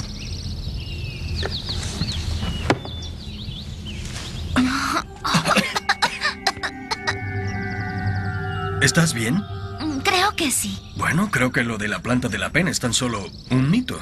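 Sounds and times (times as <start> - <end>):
faint chirping: 0.0 - 14.0.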